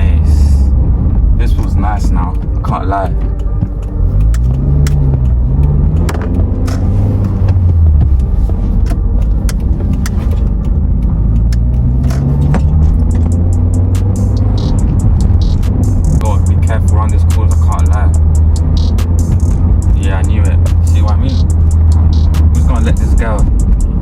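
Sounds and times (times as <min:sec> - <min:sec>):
car engine accelerating: 0:00.0 - 0:24.0
road noise inside car: 0:00.0 - 0:24.0.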